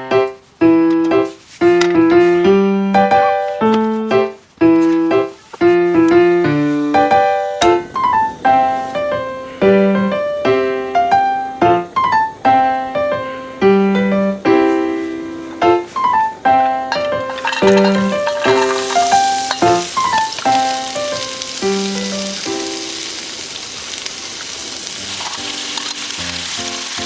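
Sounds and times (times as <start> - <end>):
piano melody: 0.0 - 27.0.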